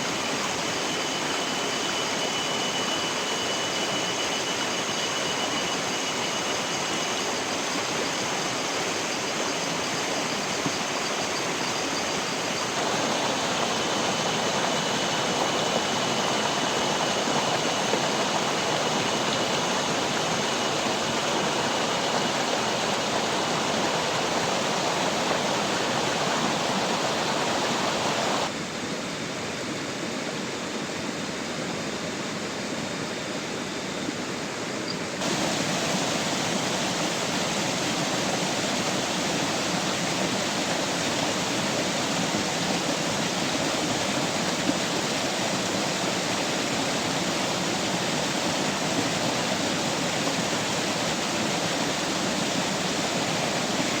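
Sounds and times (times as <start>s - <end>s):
water rushing: 0.0s - 28.6s, 35.2s - 54.0s.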